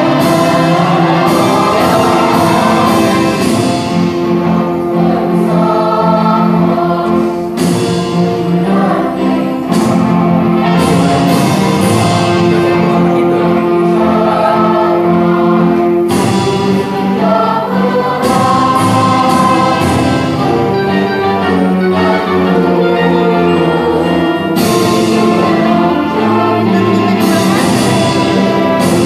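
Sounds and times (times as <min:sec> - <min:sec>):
children's choir singing chords: 0:00.0 - 0:29.0.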